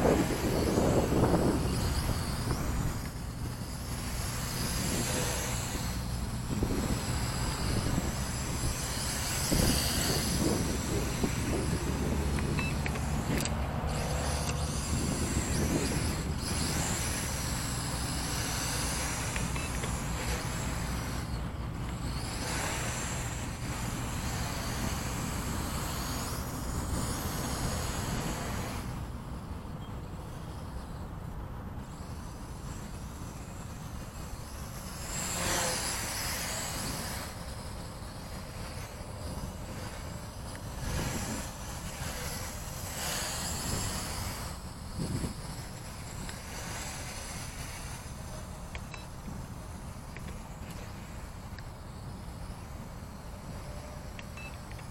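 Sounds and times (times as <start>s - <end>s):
wind buffeting microphone: 0.0s - 30.8s, 31.8s - 50.0s
drone motors buzzing: 0.0s - 54.9s.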